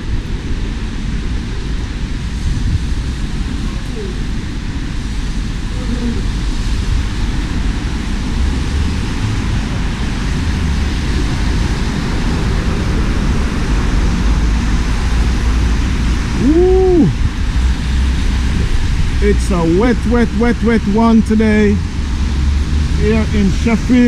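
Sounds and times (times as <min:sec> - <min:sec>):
deep rumble: 0:00.0 - 0:24.0
rain on wet street: 0:00.0 - 0:24.0.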